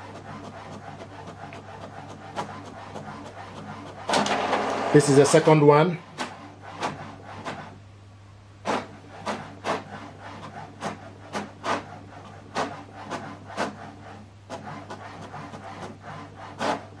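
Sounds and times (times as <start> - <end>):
printer carriage swishing: 0.0 - 7.7, 8.7 - 17.0
printer low hum: 0.0 - 7.8, 8.6 - 17.0.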